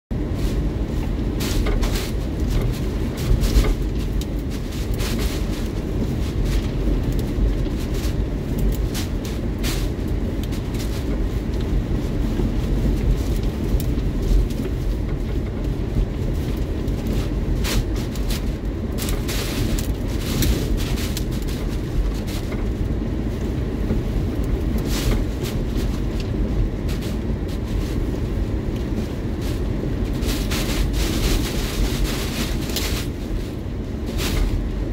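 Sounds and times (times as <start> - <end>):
heavy rain on windshield: 0.1 - 34.9
hurricane wind battering vehicle: 0.1 - 34.9.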